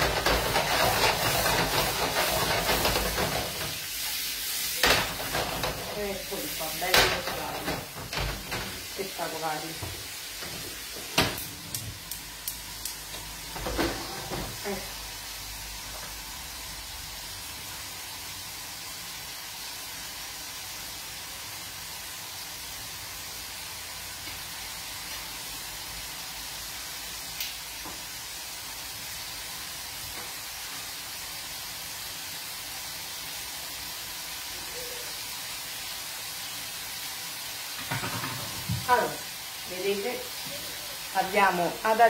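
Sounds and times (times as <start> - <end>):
prawns sizzling in pan: 0.0 - 42.0.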